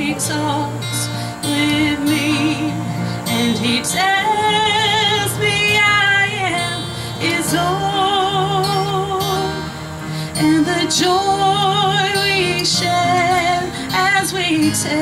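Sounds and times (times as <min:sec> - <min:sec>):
strummed acoustic guitar: 0:00.0 - 0:15.0
woman singing a hymn: 0:00.0 - 0:15.0.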